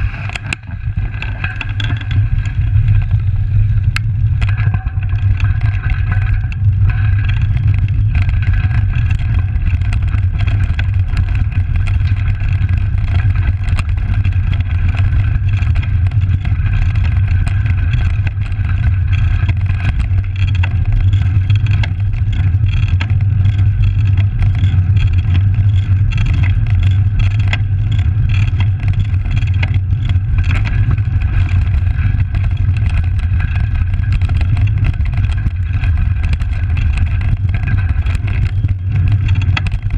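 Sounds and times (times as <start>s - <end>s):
bike clicks and rattles: 0.0s - 39.9s
bike tyres rolling on gravel: 0.0s - 39.9s
wind on microphone: 0.0s - 39.9s.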